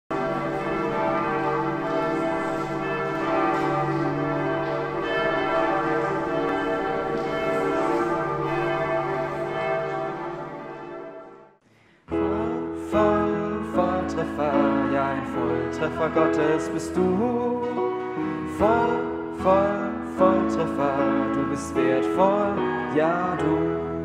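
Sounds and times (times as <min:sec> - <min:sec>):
church bells pealing: 0:00.1 - 0:11.6, 0:12.2 - 0:24.0.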